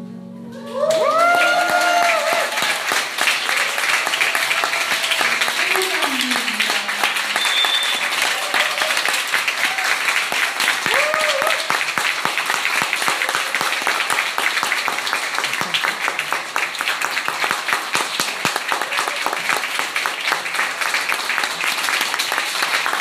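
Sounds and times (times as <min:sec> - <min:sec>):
audience applauding: 0:00.6 - 0:23.0.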